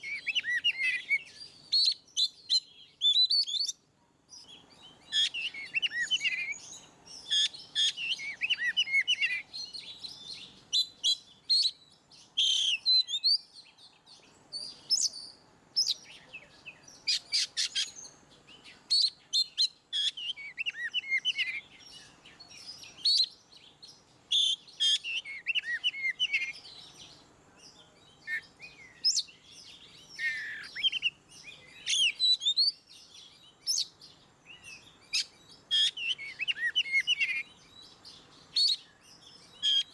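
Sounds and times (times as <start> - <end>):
bird singing whistles and chatter: 0.0 - 3.8, 4.4 - 39.9.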